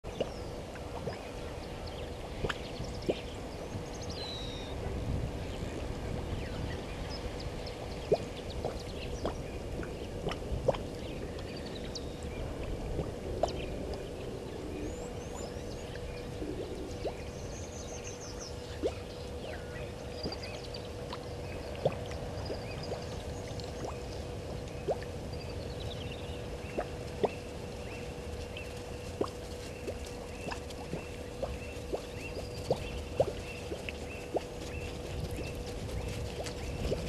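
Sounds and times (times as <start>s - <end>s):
faint constant hum: 0.0s - 37.0s
steady low rumble: 0.0s - 37.0s.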